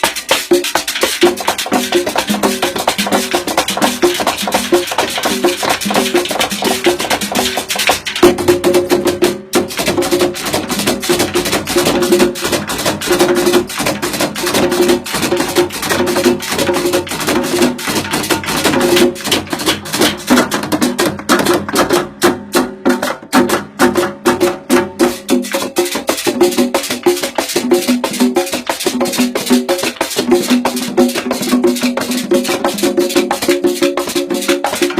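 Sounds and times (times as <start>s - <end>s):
fast dense percussion: 0.0s - 34.9s.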